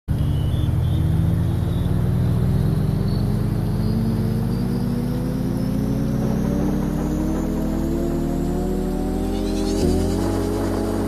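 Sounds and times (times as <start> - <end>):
low droning music: 0.1 - 11.0.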